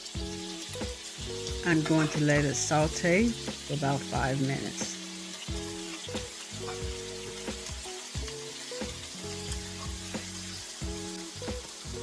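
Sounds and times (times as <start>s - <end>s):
soft background music: 0.0s - 12.0s
vegetables sizzling in oil: 0.0s - 12.0s.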